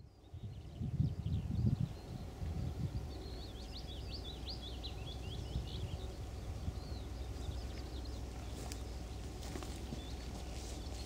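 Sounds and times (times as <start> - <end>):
songbirds chirping: 0.0 - 11.0
steady low rumble: 0.0 - 11.0.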